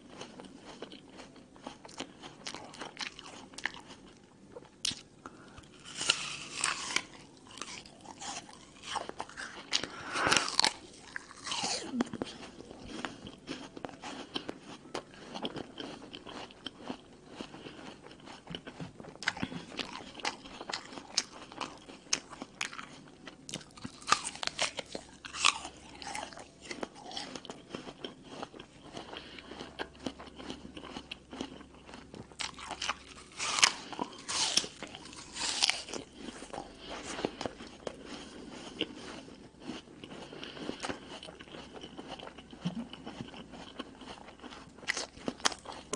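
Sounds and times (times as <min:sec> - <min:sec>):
apple crunching and chewing: 0:00.0 - 0:45.9.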